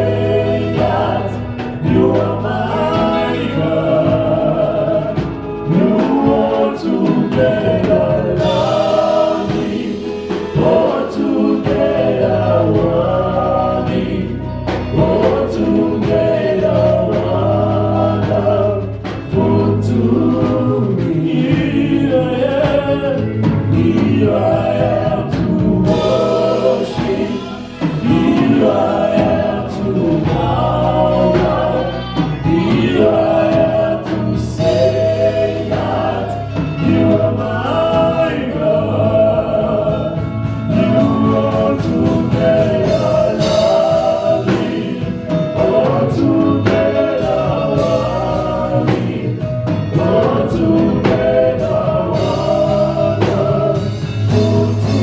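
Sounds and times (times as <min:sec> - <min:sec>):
gospel choir singing: 0:00.0 - 0:55.0
live band playing: 0:00.0 - 0:55.0.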